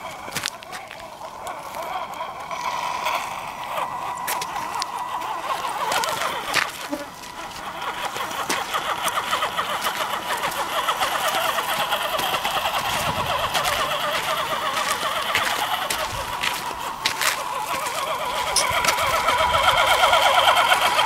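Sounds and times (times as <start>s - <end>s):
toy car electric motor whining: 0.0s - 21.0s.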